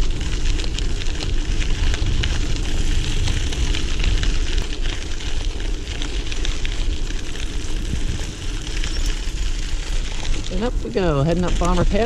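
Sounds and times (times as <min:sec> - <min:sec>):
bike tyres crunching on dirt: 0:00.0 - 0:12.0
small clicks and rattles: 0:00.0 - 0:12.0
wind rumble on microphone: 0:00.0 - 0:12.0.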